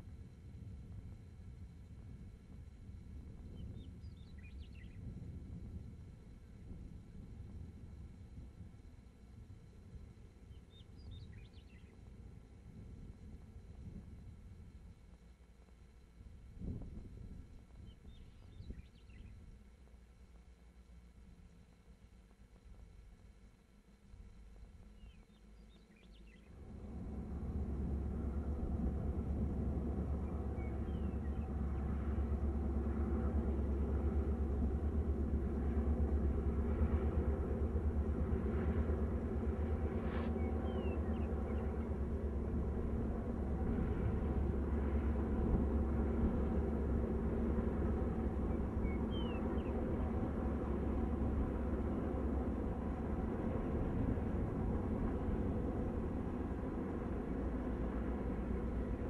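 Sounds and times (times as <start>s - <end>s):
distant locomotive engine rumble: 0.0s - 59.0s.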